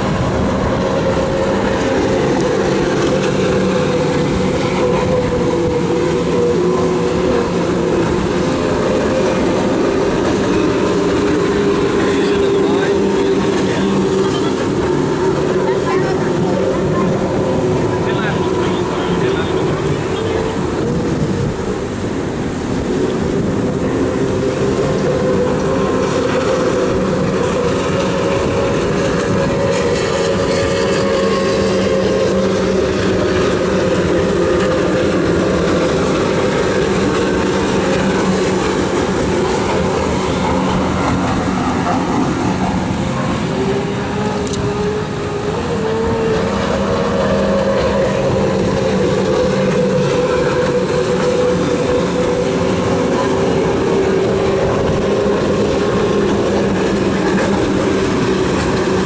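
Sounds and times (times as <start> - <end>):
powerboat engines droning: 0.0 - 59.0.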